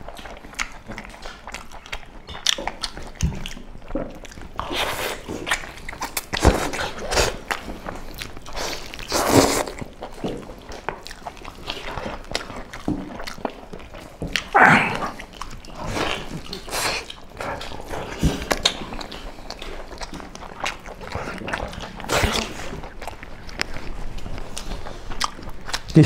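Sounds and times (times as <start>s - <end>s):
people chewing and smacking: 0.0s - 26.0s.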